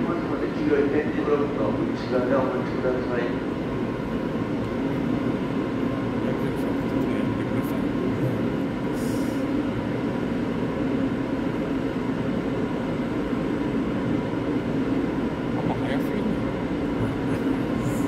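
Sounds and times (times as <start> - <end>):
faint steady hum: 0.0 - 18.0
train rumble: 0.0 - 18.0.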